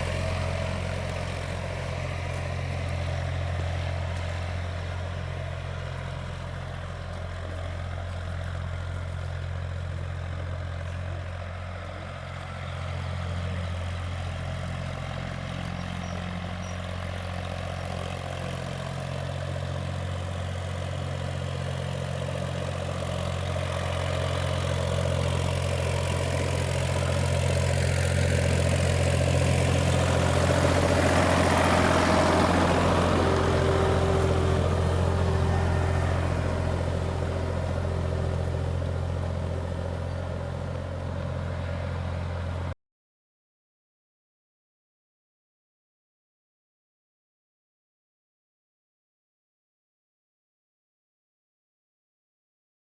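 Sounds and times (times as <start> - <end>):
tractor diesel engine running: 0.0 - 42.8.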